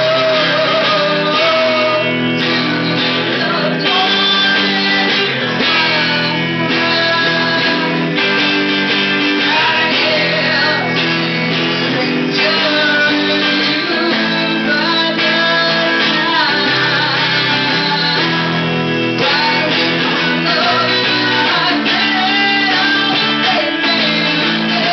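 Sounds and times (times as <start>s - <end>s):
electric guitar chords: 0.0s - 24.9s
woman singing: 0.0s - 24.9s.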